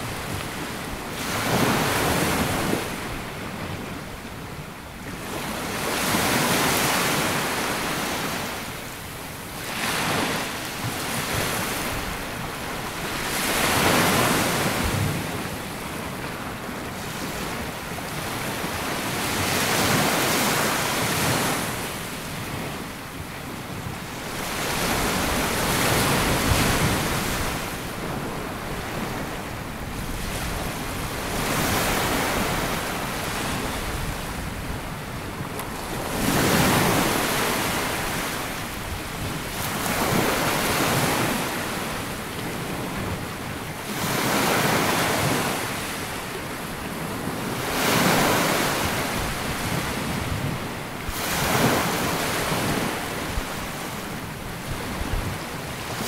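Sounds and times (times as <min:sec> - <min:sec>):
small waves washing up beach: 0:00.0 - 0:56.0.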